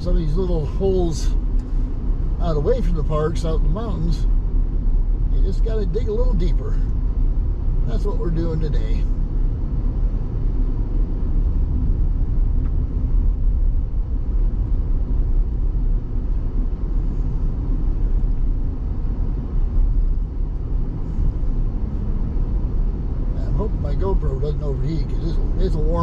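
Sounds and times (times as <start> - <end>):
vehicle driving on dirt road: 0.0 - 26.0.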